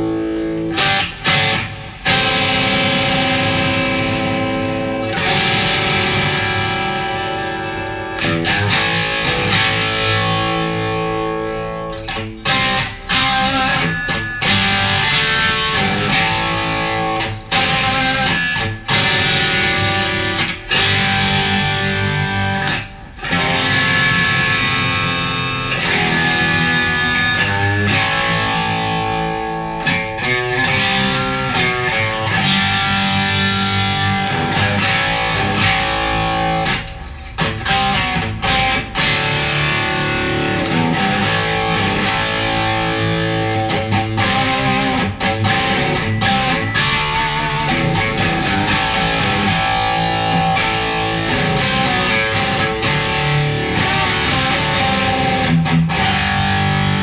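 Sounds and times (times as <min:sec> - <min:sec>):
distorted electric guitar riffs: 0:00.0 - 0:57.0.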